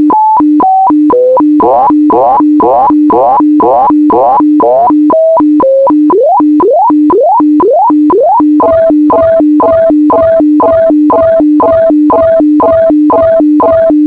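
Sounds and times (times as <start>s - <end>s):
radio fax data tones: 0.0s - 14.0s.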